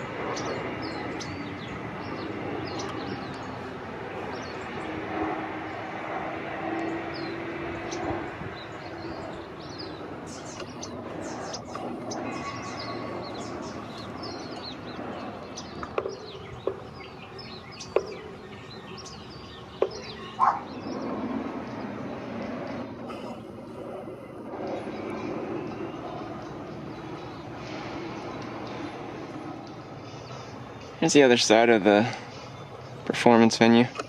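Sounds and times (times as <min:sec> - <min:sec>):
small birds chirping: 0:00.0 - 0:34.0
steady background hum: 0:00.0 - 0:34.0.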